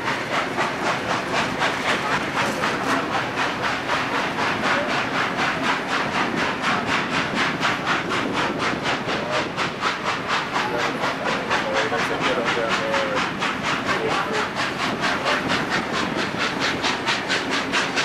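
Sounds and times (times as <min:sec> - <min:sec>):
steam locomotive chuffing: 0:00.0 - 0:18.0
train wheels on rails: 0:00.0 - 0:18.0.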